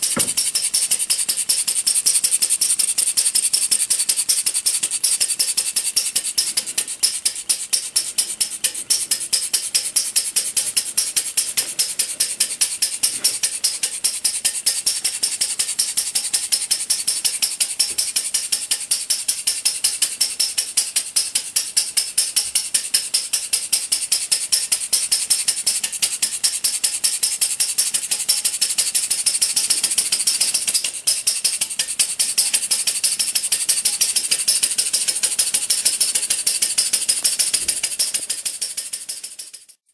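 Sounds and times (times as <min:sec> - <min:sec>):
small engine rattling beat: 0:00.0 - 0:39.9.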